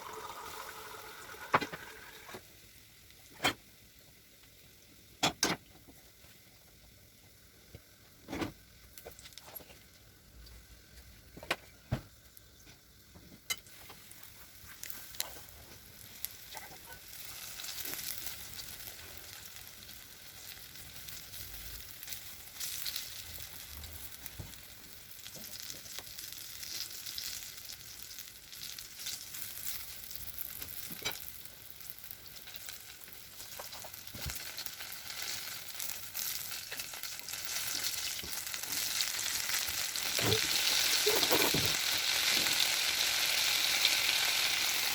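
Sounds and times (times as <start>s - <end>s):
patties sizzling in frying oil: 0.0s - 44.9s.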